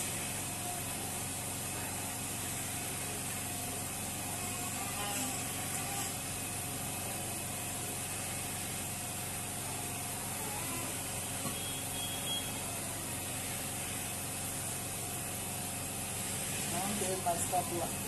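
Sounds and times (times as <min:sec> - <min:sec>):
steady hum over hiss: 0:00.0 - 0:18.0.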